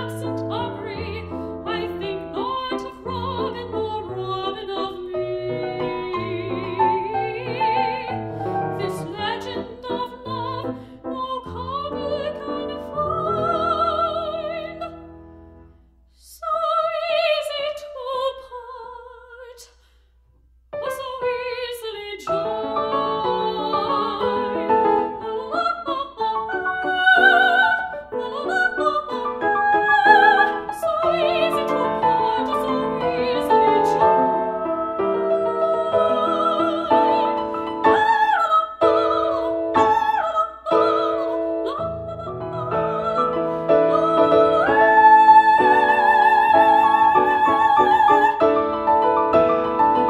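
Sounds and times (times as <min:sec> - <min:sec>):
woman singing opera: 0:00.0 - 0:15.1, 0:16.2 - 0:19.8, 0:20.8 - 0:48.6
piano accompaniment: 0:00.0 - 0:15.7, 0:20.9 - 0:50.0.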